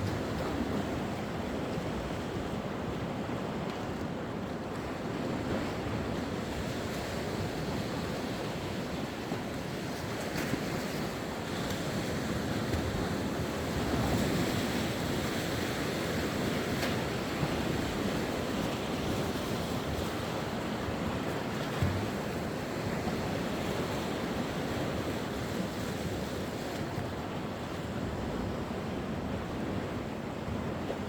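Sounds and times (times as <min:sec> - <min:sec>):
waves washing onto shore: 0:00.0 - 0:31.0.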